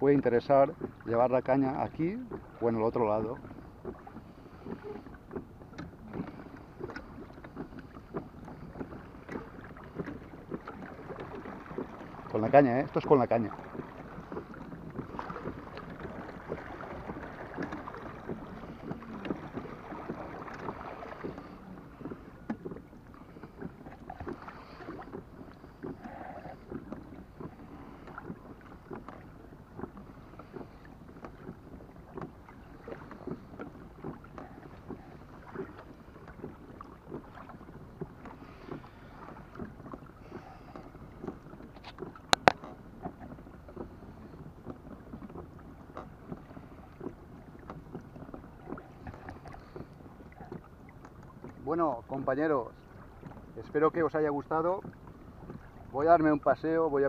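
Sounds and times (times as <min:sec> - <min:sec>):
water lapping against hull: 0:00.0 - 0:57.0.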